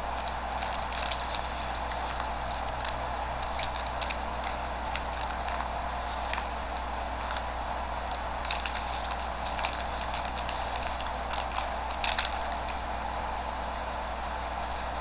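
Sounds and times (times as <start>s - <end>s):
trading cards clicking and rustling: 0.0s - 7.5s, 8.1s - 12.9s
steady hiss and low hum: 0.0s - 15.0s.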